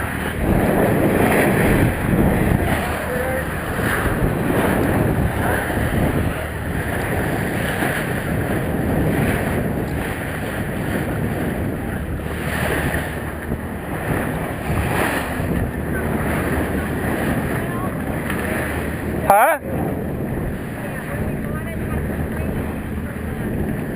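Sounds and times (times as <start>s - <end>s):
water washing along hull: 0.0s - 23.9s
wind buffeting microphone: 0.0s - 23.9s.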